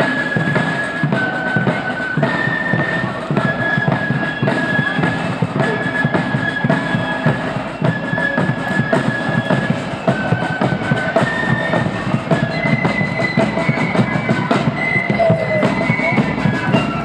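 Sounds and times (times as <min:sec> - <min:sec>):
flute melody: 0:00.0 - 0:17.0
snare drum strokes: 0:00.0 - 0:17.0.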